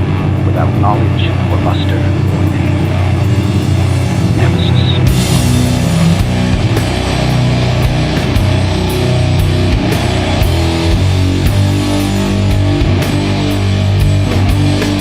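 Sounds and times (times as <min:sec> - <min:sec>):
bass guitar: 0:00.0 - 0:15.0
drums and cymbal hits: 0:00.0 - 0:15.0
heavy distorted guitars: 0:00.0 - 0:15.0.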